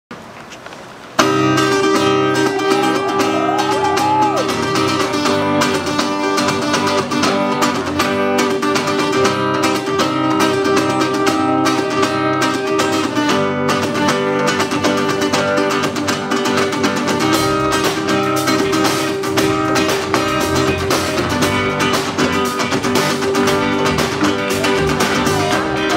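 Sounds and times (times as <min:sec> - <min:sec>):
live band playing: 0:01.2 - 0:25.9
strummed acoustic guitar: 0:01.2 - 0:25.9.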